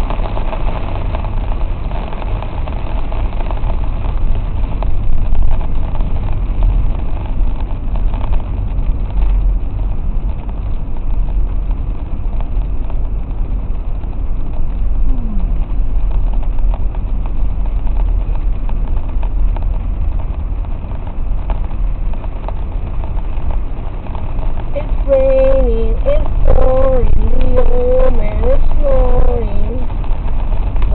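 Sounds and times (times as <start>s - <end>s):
car cabin rumble: 0.0s - 30.9s
tyre and rain noise: 0.0s - 30.9s.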